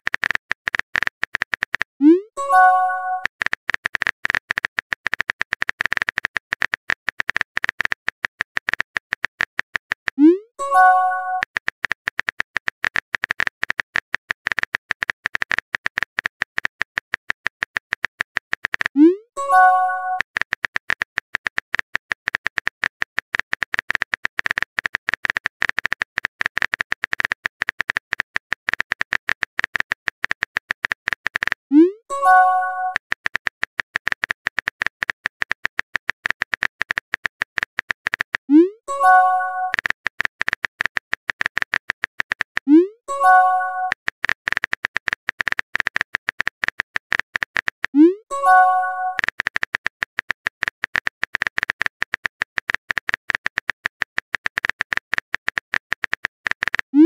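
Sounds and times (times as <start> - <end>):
keyboard typing clicks: 0.0 - 57.0.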